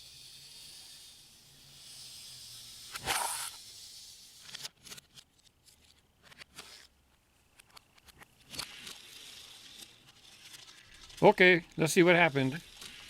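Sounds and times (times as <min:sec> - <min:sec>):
toy cars and track clicking: 0:00.0 - 0:13.0.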